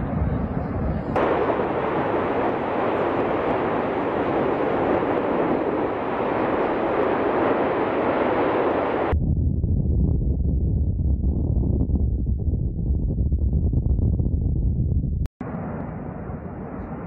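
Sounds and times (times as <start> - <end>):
volcanic vent roaring: 0.0 - 17.0.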